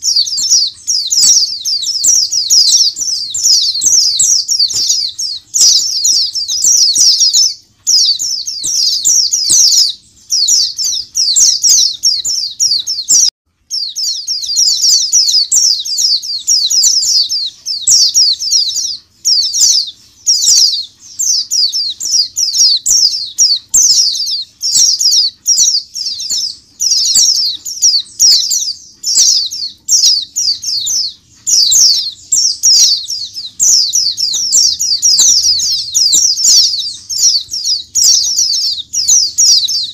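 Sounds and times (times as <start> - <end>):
flock of birds twittering: 0.0 - 39.9.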